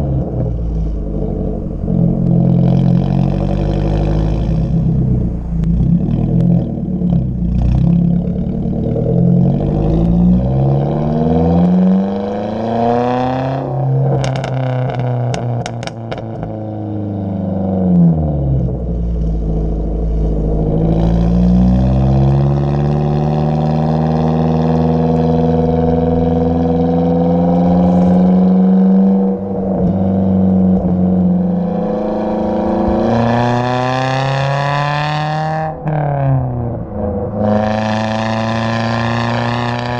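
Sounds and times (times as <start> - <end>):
car engine accelerating: 0.0 - 39.9
exhaust crackles: 0.0 - 39.9.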